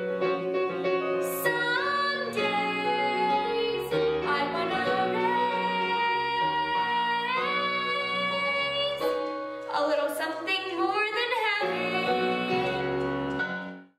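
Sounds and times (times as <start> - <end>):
instrumental accompaniment: 0.0 - 13.9
girl singing with vibrato: 1.3 - 13.0.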